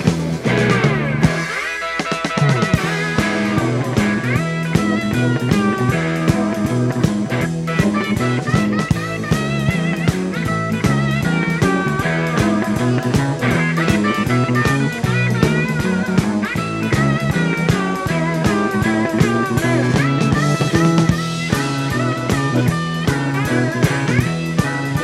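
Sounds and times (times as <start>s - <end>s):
bass guitar: 0.0s - 25.0s
drum kit: 0.0s - 25.0s
lead guitar with bent notes: 0.0s - 25.0s.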